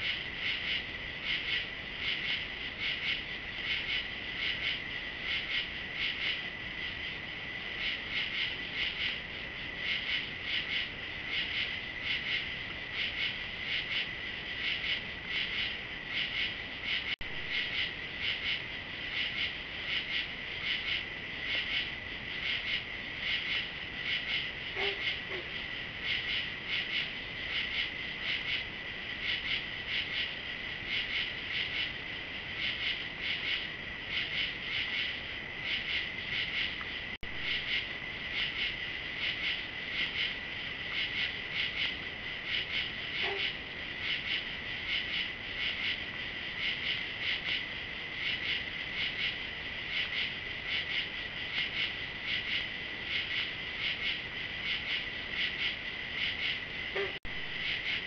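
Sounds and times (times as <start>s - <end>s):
crickets pulsing chirps: 0.0s - 58.0s
insects trilling: 0.0s - 58.0s.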